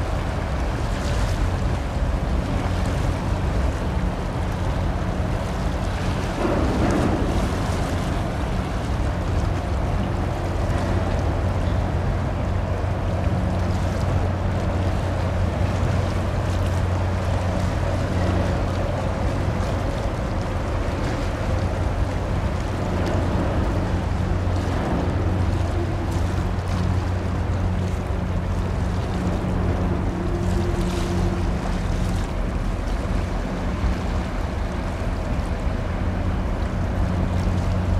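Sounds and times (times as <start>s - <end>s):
ship engines droning: 0.0s - 37.9s
water noise: 0.0s - 37.9s
wind: 0.0s - 37.9s.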